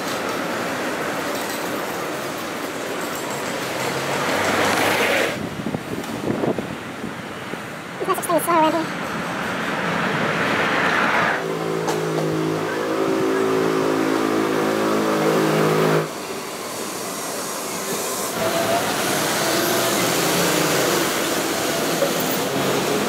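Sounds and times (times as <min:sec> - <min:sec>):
passing traffic: 0:00.0 - 0:23.0
tram rumbling: 0:00.0 - 0:23.0.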